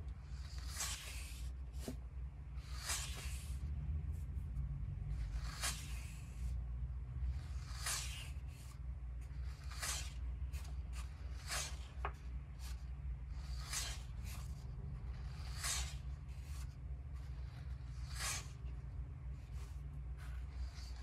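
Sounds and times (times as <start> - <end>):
low steady hum: 0.0 - 21.0
book pages turning: 0.2 - 6.6, 7.2 - 21.0.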